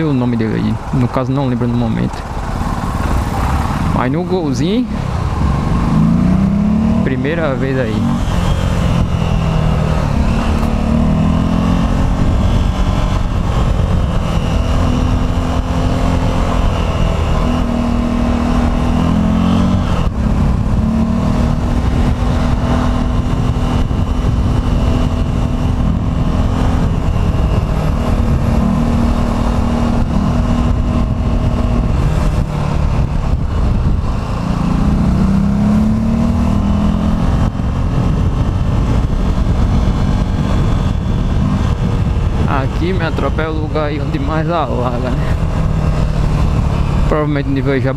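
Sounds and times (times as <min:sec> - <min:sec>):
road and wind rumble: 0:00.0 - 0:47.9.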